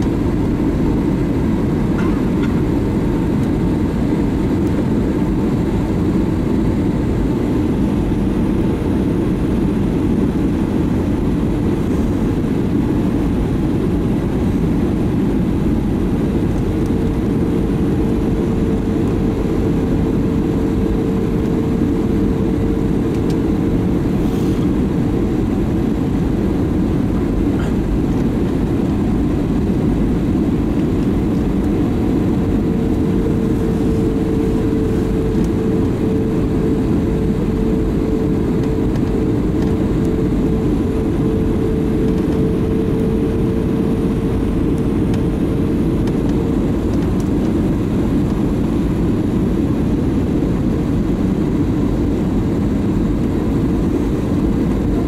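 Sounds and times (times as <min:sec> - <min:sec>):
airflow and jet engine noise: 0:00.0 - 0:55.0
steady hum: 0:00.0 - 0:55.0.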